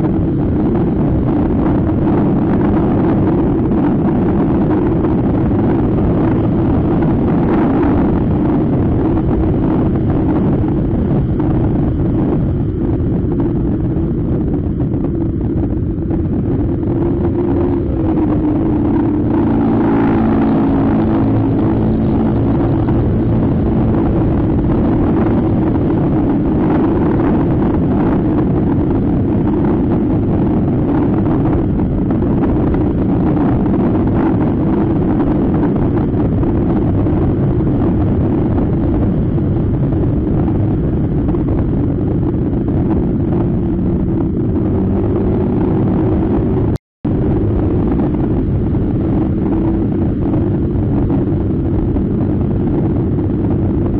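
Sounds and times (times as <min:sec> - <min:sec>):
road noise: 0:00.0 - 0:53.9
wind noise: 0:00.0 - 0:53.9.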